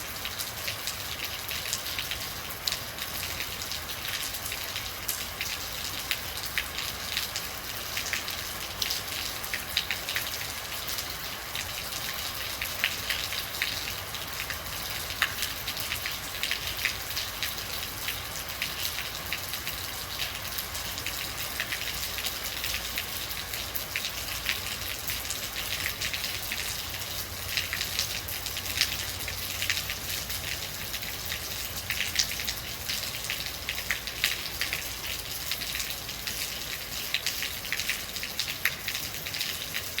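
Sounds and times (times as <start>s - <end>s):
rain hiss: 0.0s - 40.0s
raindrops pattering on hard surface: 0.0s - 40.0s.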